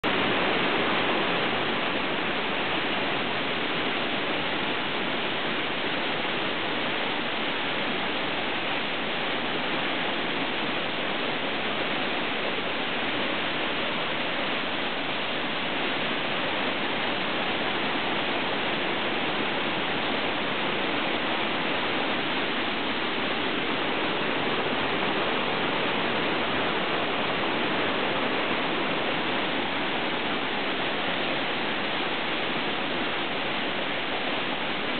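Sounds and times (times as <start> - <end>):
waterfall cascading over rocks: 0.0 - 34.9.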